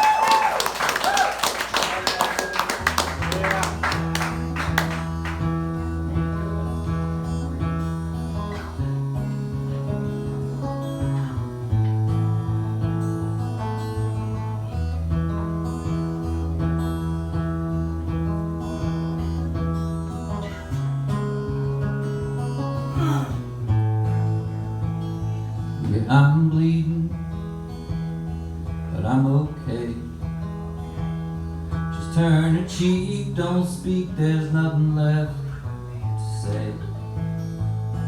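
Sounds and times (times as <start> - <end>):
acoustic guitar strumming: 2.1 - 38.0.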